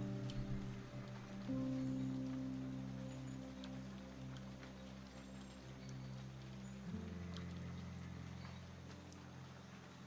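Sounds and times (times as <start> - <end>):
ambient meditation music drone: 0.0 - 10.0.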